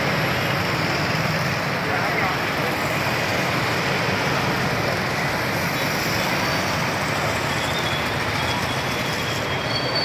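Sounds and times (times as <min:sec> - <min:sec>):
motorbikes and cars passing: 0:00.0 - 0:10.0.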